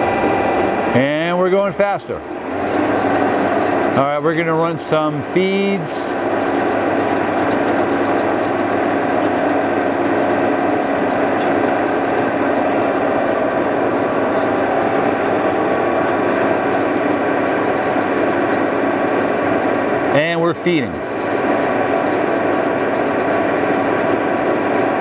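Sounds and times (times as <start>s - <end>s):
lathe mechanical drive noise: 0.0s - 25.0s
whining gear tones: 0.0s - 25.0s.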